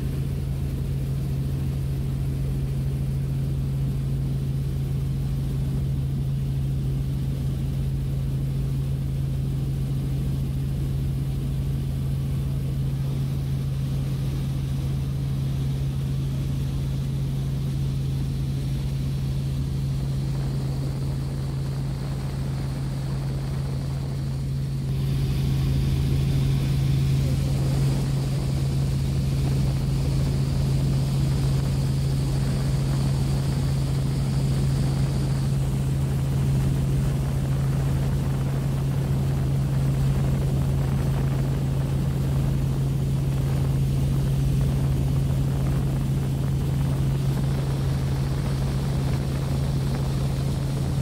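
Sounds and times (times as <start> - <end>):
helicopter engine and rotor drone: 0.0 - 51.0.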